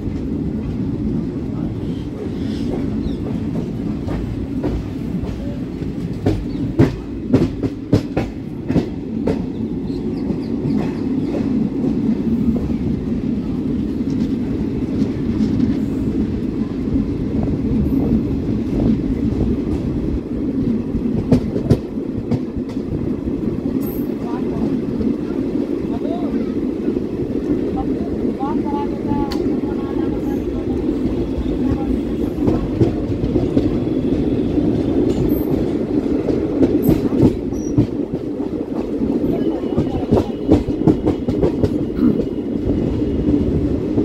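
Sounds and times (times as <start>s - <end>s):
train rumbling on track: 0.0s - 44.0s.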